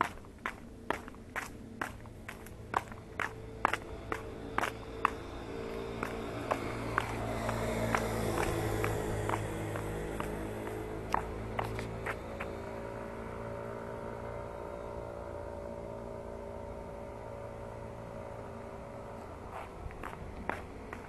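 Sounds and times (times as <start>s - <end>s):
engine-like hum: 0.0s - 21.0s.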